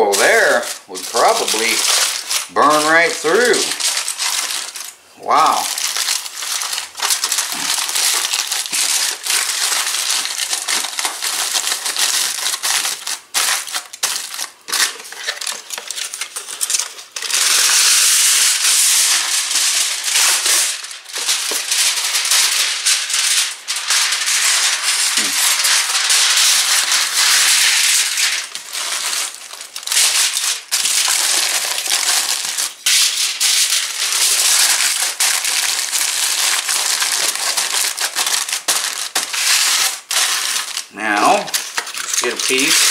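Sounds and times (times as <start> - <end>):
aluminum foil crinkling: 0.0 - 42.9.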